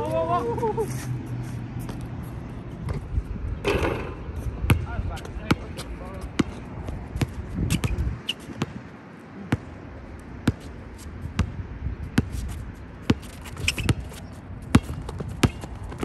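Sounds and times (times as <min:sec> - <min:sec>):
basketball bouncing on asphalt: 0:01.8 - 0:16.0.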